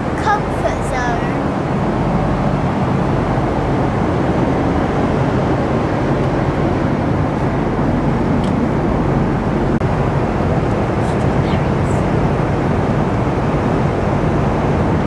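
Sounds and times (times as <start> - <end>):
airliner cabin roar in flight: 0.0 - 15.0.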